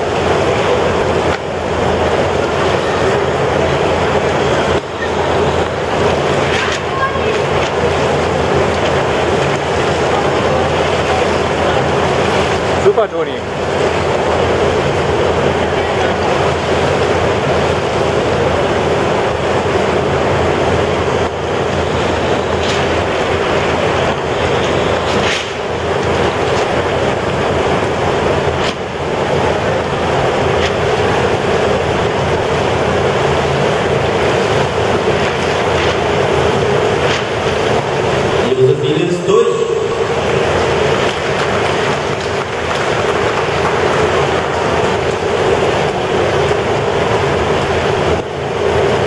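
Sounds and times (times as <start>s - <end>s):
water rippling: 0.0s - 38.5s, 39.8s - 49.0s.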